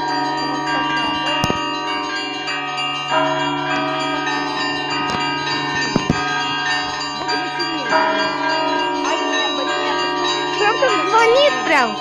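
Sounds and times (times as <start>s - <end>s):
church bells ringing: 0.0s - 12.0s
low bell hum: 0.0s - 12.0s.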